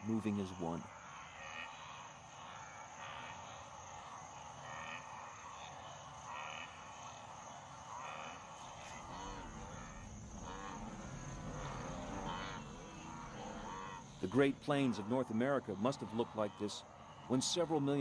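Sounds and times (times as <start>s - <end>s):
insects chirring: 0.0s - 18.0s
wildebeest grunting and lowing: 0.0s - 18.0s.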